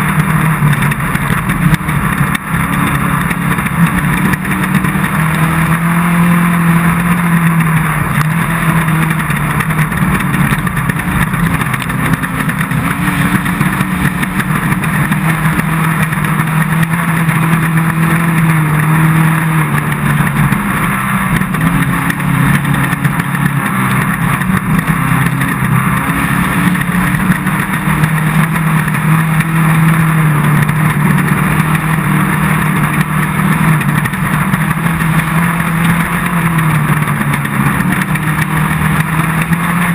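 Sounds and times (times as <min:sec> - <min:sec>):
race car engine running hard: 0:00.0 - 0:39.9
rough noise of car at speed: 0:00.0 - 0:39.9.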